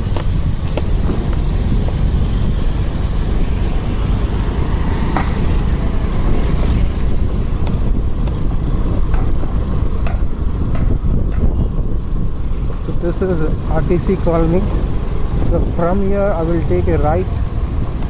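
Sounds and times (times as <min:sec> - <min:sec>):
road and traffic noise: 0:00.0 - 0:18.0
wind buffeting microphone: 0:00.0 - 0:18.0.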